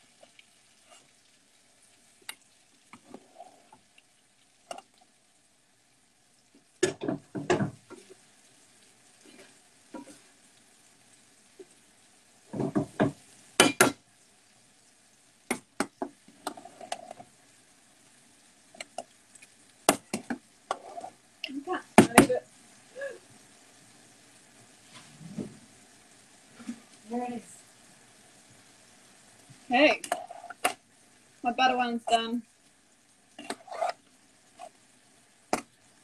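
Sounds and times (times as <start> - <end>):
faint sizzle of frying: 0.0 - 36.0.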